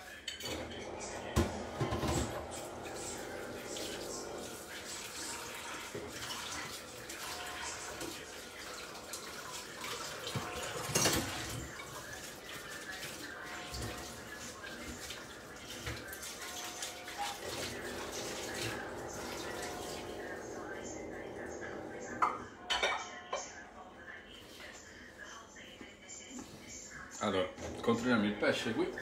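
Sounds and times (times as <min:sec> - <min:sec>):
pans bubbling and hissing: 0:00.0 - 0:23.4.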